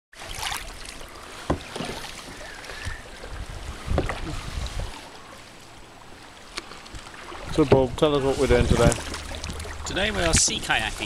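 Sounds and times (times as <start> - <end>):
paddle splashing water: 0.1 - 11.0.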